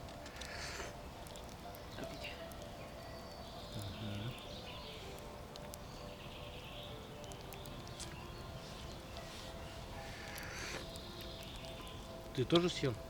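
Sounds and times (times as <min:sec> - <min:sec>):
campfire crackling and popping: 0:00.0 - 0:13.0
low outdoor background: 0:00.0 - 0:13.0.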